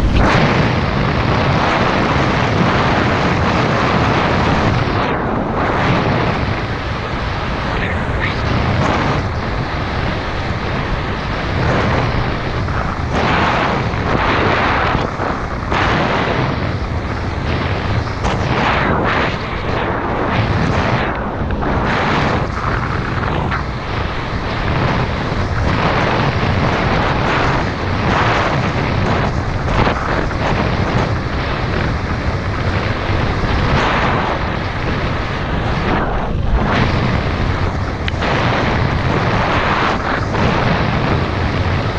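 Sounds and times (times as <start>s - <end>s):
mountain bike rolling rumble: 0.0s - 41.9s
wind buffeting microphone: 0.0s - 41.9s.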